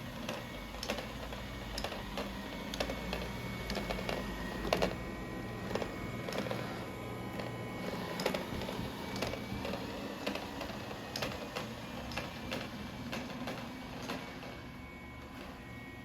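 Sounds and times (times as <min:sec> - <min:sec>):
small machine whirring: 0:00.0 - 0:16.0.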